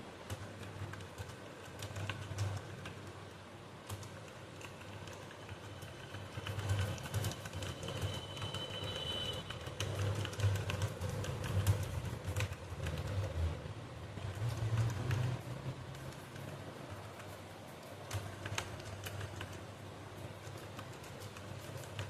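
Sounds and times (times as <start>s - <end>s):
typing on a keyboard: 0.0s - 22.0s.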